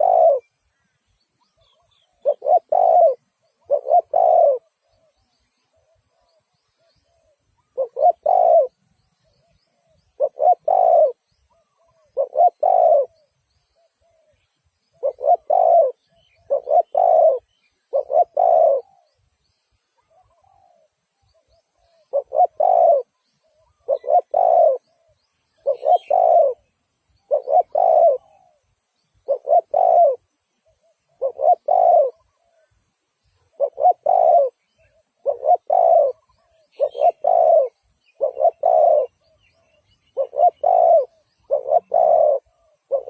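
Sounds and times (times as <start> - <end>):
dove cooing: 0.0 - 0.5, 1.4 - 19.2, 20.0 - 28.6, 29.2 - 32.7, 33.4 - 43.0.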